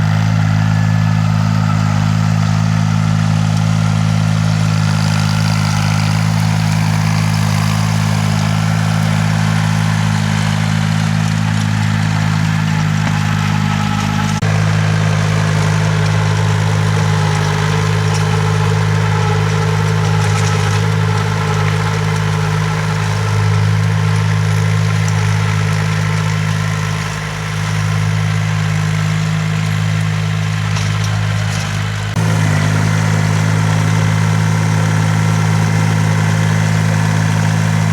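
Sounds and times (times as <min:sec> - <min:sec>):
tilling machine engine droning: 0:00.0 - 0:37.9.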